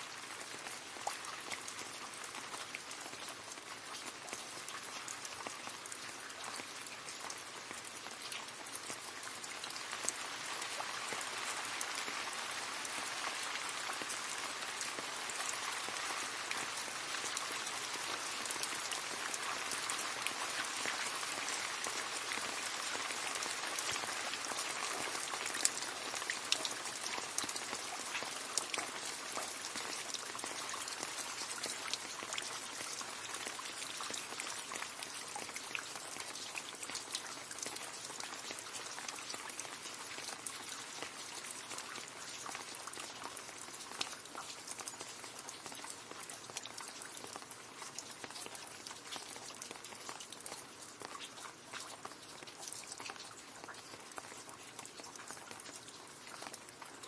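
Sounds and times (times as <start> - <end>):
rain falling into a puddle: 0.0 - 57.0.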